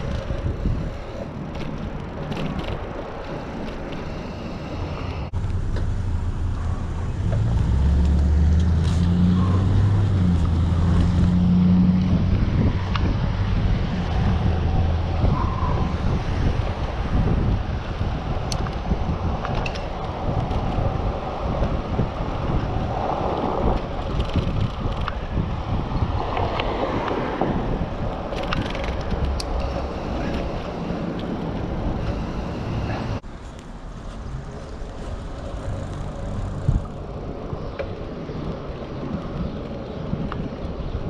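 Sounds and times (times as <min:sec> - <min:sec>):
tyre and road rumble: 0:00.0 - 0:41.0
wind buffeting microphone: 0:00.0 - 0:41.0.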